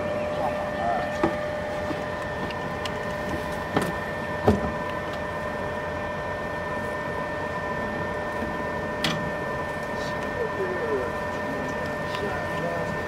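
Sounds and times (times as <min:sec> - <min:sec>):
boat motor whining: 0:00.0 - 0:13.0.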